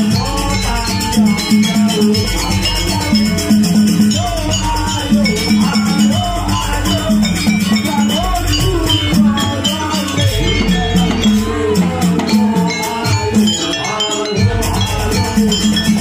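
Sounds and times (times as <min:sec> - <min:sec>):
percussion ensemble with melody: 0:00.0 - 0:16.0.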